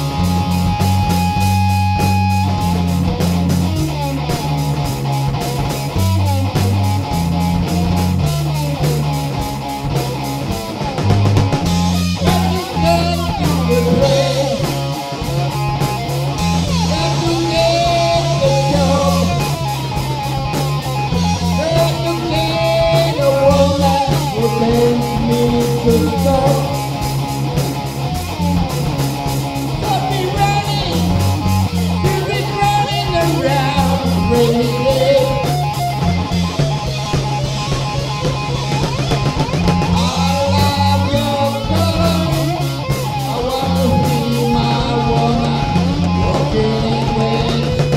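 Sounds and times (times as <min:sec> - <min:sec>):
bass line: 0:00.0 - 0:47.9
drum kit: 0:00.0 - 0:47.9
electric guitar: 0:00.0 - 0:47.9.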